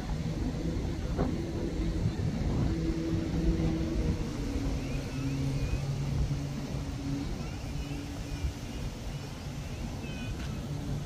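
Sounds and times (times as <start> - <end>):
engine humming: 0.0 - 11.0
wind noise on microphone: 0.0 - 11.0.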